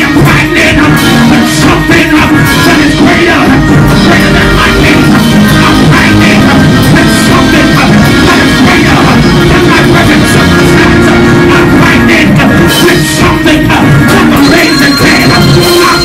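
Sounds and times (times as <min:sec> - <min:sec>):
church band music: 0:00.0 - 0:16.0.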